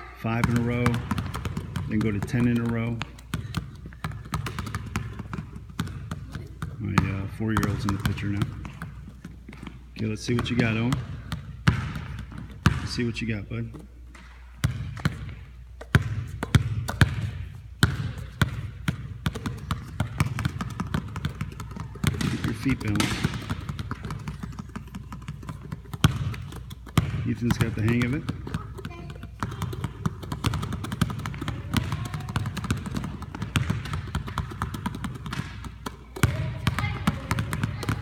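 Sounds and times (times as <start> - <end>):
basketballs bouncing: 0.0 - 38.0.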